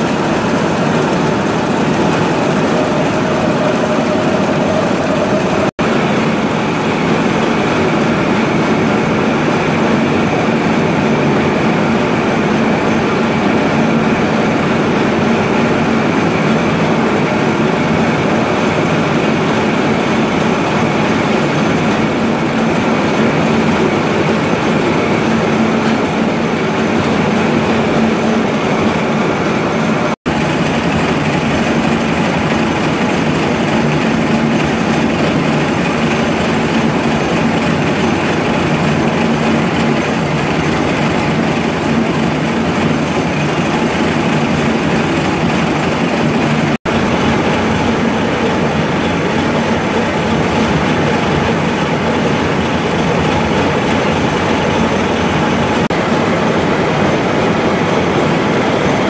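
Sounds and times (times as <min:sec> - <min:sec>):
coolant pouring: 0:00.0 - 0:59.0
lathe boring metal: 0:00.0 - 0:59.0.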